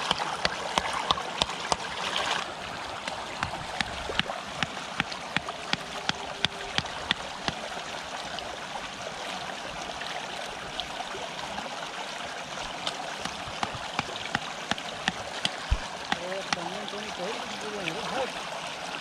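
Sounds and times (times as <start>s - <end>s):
water rushing through a channel: 0.0s - 19.0s.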